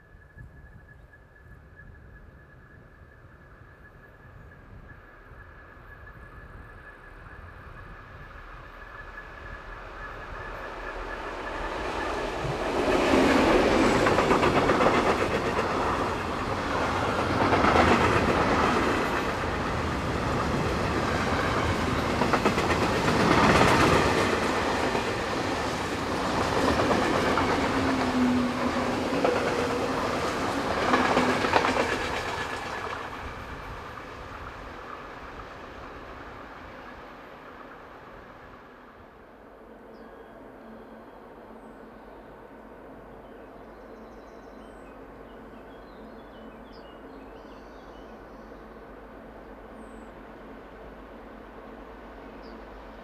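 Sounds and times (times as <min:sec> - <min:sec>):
freight train rumbling past: 0:00.1 - 0:53.0.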